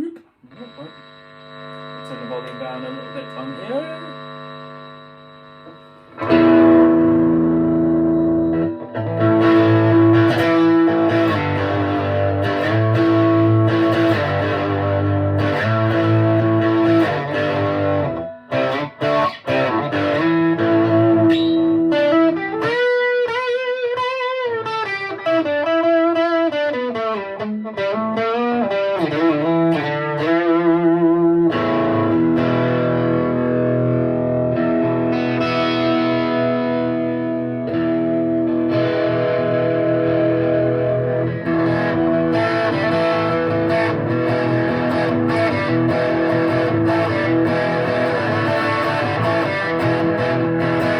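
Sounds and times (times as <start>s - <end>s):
distorted electric guitar: 0.0s - 50.9s.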